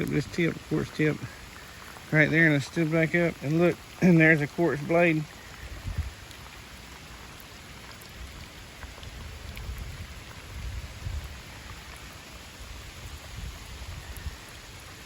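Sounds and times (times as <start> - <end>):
pouring rain: 0.0 - 15.0.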